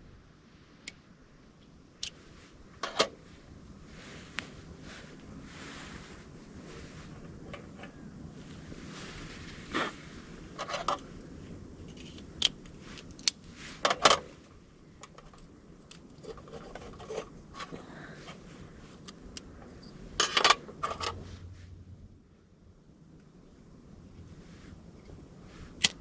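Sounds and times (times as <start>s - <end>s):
low steady background noise: 0.0s - 26.0s.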